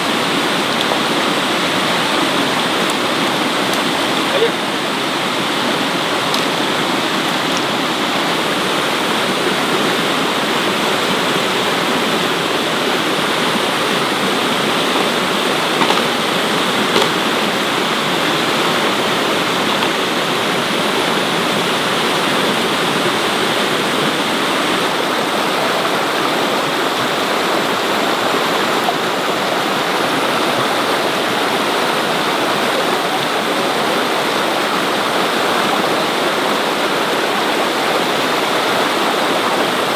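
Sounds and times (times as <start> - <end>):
heavy rain and running water: 0.0 - 39.9.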